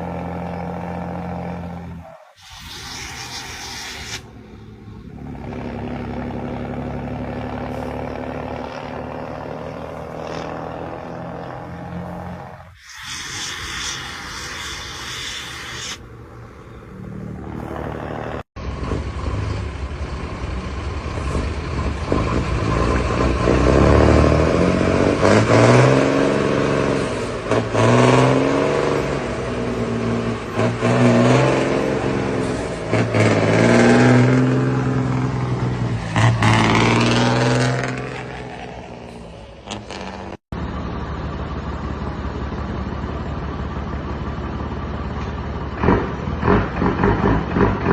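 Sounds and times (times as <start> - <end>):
diesel engine running steadily: 0.0 - 47.9
diesel truck engine revving: 0.0 - 47.9.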